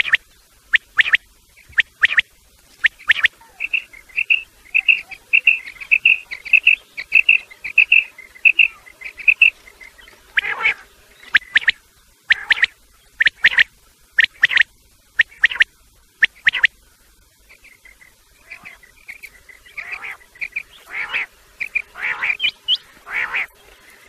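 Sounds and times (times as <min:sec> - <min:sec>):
quail call chirping: 0:00.0 - 0:02.2, 0:02.8 - 0:16.7, 0:17.6 - 0:23.5.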